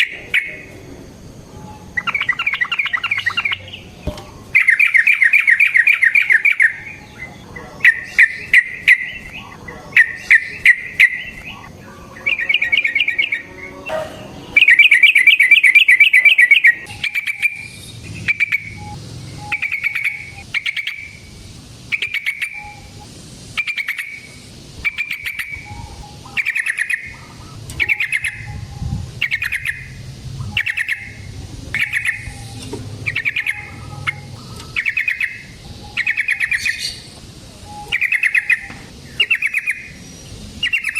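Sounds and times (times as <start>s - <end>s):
bird singing trilled phrases: 0.0s - 40.9s.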